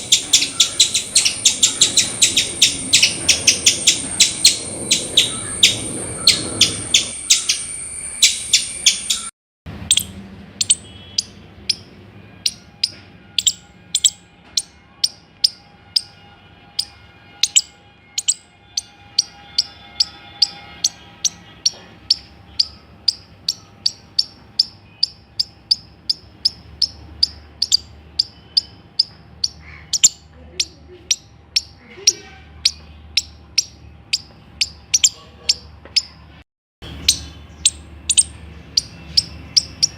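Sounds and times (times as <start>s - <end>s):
squirrel alarm chirps: 0.0s - 39.9s.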